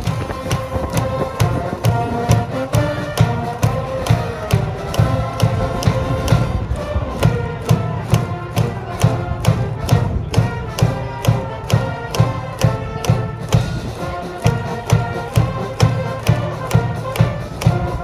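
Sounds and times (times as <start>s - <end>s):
bass drum strikes: 0.0s - 18.0s
brass band playing: 0.0s - 18.0s.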